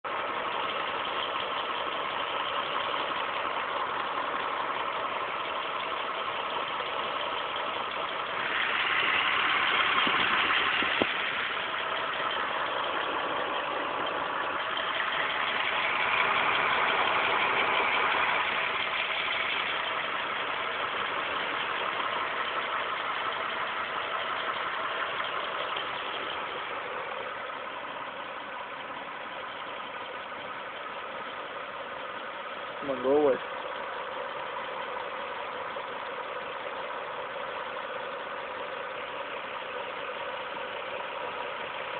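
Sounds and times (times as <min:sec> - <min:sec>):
car engine running: 0:00.0 - 0:41.9
engine ticking: 0:00.0 - 0:41.9.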